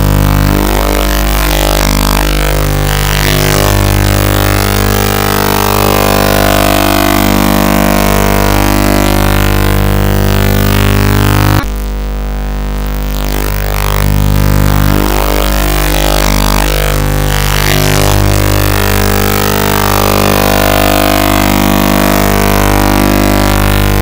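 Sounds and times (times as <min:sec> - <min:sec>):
distorted electronic music: 0:00.0 - 0:24.0.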